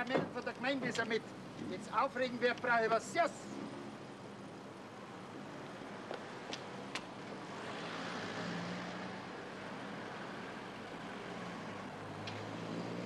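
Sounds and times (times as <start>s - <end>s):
road noise hiss: 0.0s - 13.0s.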